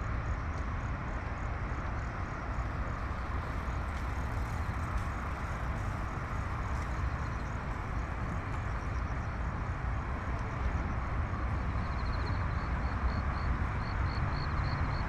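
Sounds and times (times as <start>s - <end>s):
city road traffic rumble: 0.0s - 15.0s.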